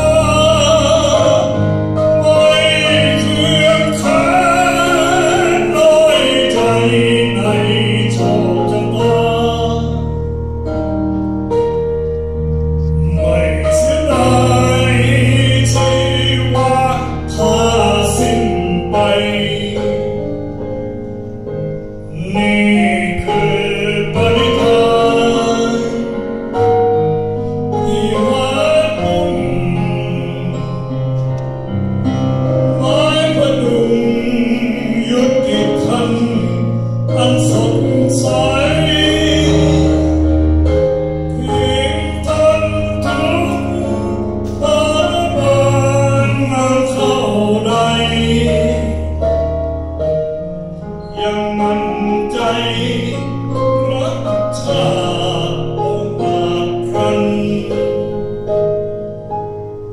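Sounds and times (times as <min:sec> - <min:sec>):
man singing a slow ballad: 0:00.0 - 0:10.8, 0:12.8 - 0:21.2, 0:21.8 - 0:31.4, 0:32.0 - 0:49.9, 0:50.7 - 0:59.3
electronic keyboard accompaniment: 0:00.0 - 0:59.9.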